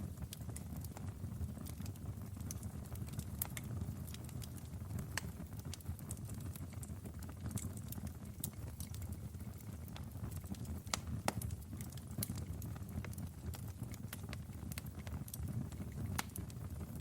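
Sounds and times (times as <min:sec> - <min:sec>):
fire flames rumbling: 0:00.0 - 0:17.0
wood fire crackling and popping: 0:00.0 - 0:17.0.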